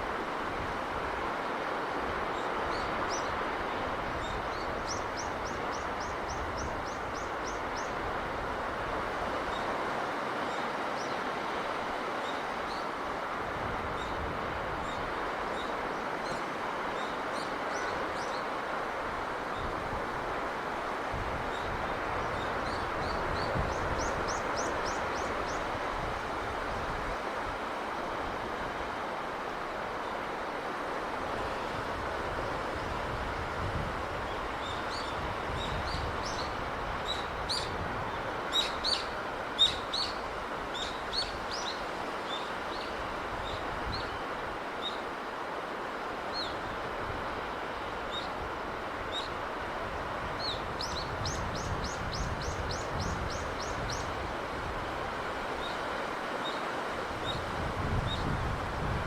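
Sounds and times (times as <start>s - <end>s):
sea wind: 0.0s - 59.0s.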